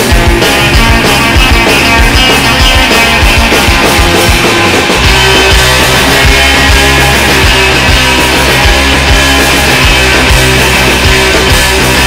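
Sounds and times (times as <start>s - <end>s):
punk rock band: 0.0s - 12.0s
steady drum beat: 0.0s - 12.0s.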